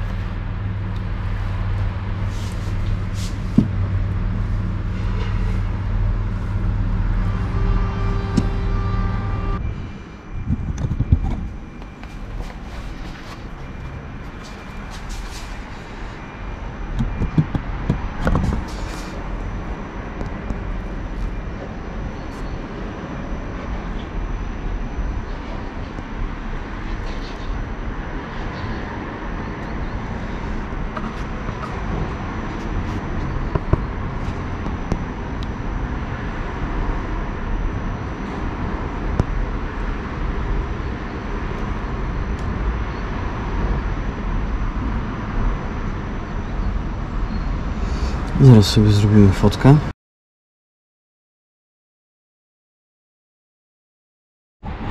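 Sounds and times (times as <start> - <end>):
faint high whine: 0.0 - 49.8.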